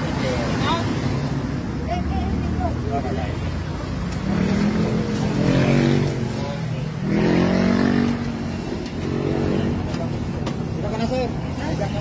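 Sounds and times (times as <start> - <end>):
vehicle engines passing: 0.0 - 12.0.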